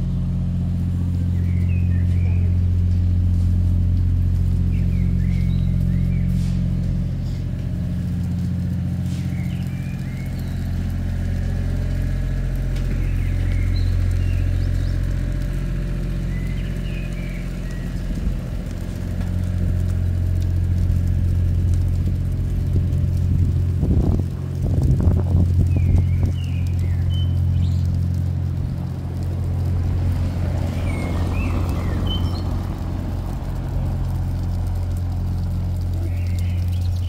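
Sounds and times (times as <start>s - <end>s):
low street rumble: 0.0s - 37.0s.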